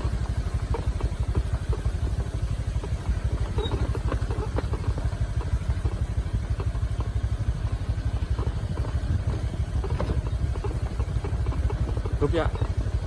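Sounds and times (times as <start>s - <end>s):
light clattering: 0.0s - 13.0s
vehicle engine running: 0.0s - 13.0s.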